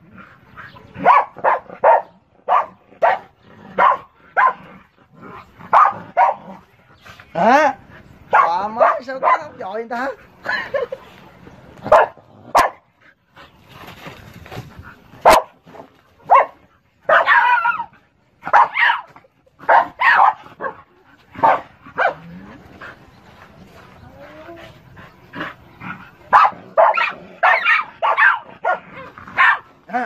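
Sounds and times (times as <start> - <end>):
dogs barking and yipping: 0.0 - 11.2, 11.8 - 13.0, 15.0 - 30.0.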